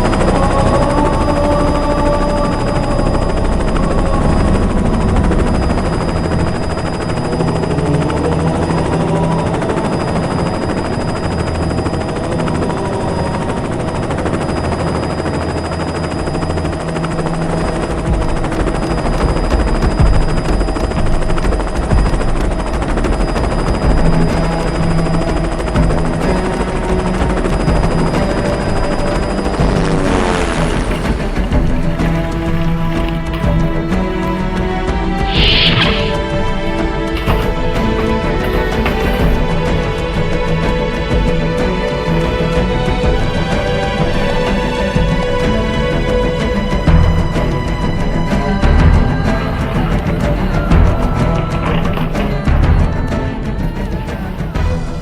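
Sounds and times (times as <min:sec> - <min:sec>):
helicopter high whine: 0:00.0 - 0:55.0
low pulsing rotor: 0:00.0 - 0:55.0.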